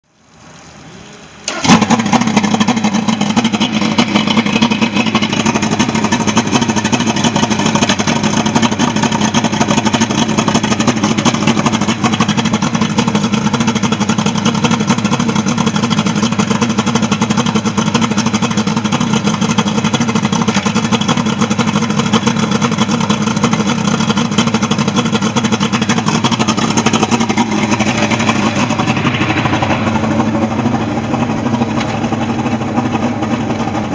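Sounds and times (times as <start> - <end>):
outboard motor starting and running: 0.2 - 33.9.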